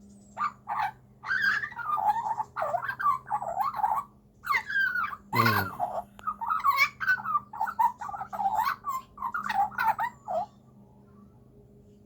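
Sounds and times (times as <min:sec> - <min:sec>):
magpie squawky warbling calls: 0:00.4 - 0:10.5.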